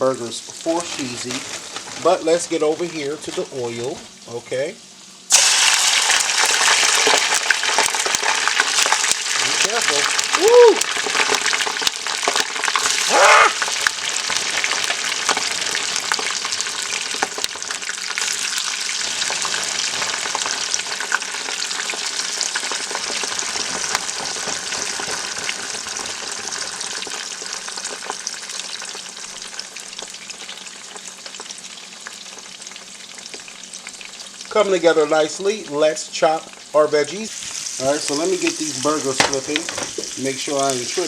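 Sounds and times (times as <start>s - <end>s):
fries sizzling in hot oil: 0.0s - 41.0s.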